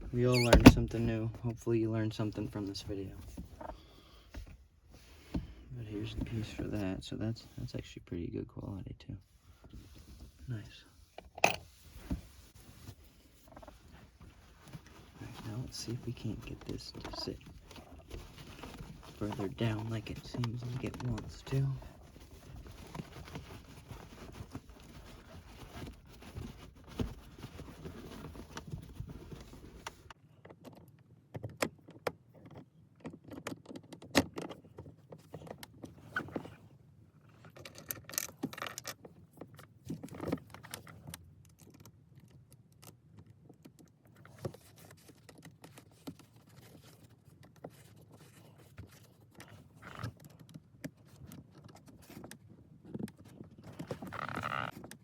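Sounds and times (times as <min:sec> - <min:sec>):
clicks and scrapes on gear shifter: 0:11.0 - 0:55.0.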